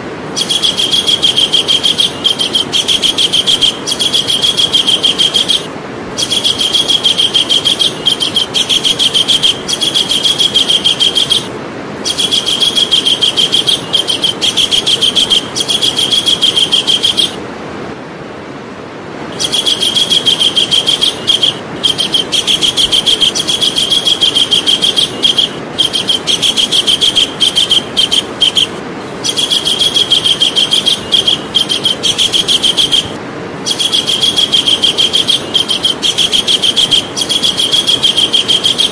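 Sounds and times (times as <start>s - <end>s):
steady background hiss: 0.0s - 38.9s
kingfisher calling: 0.2s - 17.4s, 19.3s - 38.9s.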